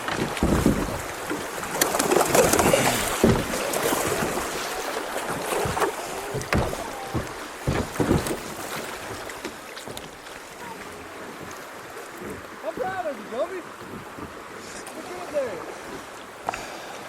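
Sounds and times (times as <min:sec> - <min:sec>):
water splashing and rushing: 0:00.0 - 0:17.0.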